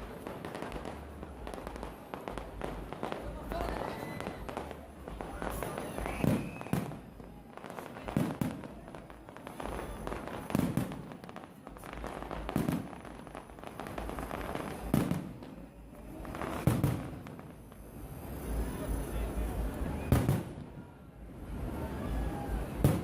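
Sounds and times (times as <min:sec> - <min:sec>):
firework bangs with echo: 0:00.0 - 0:23.0
firework crackle: 0:00.0 - 0:23.0.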